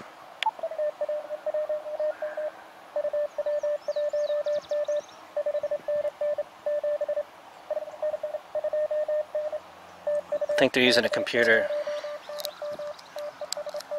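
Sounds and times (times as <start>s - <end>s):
morse code beeping tone: 0.4s - 13.9s.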